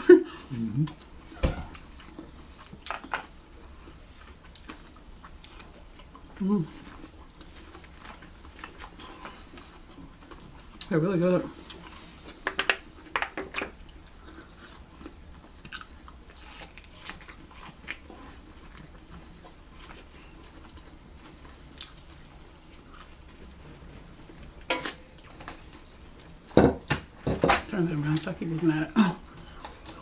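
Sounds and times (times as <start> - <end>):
chewing and biting food: 1.8 - 10.9, 11.5 - 26.5.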